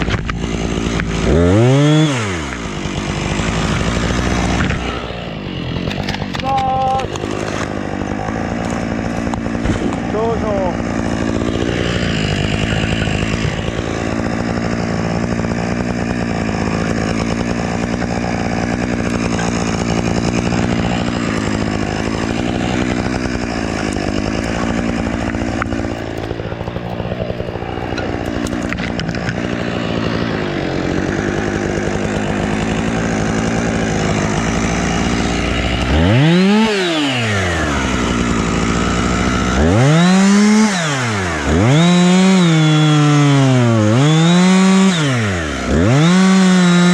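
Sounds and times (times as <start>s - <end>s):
chainsaw running and revving: 0.0s - 46.9s.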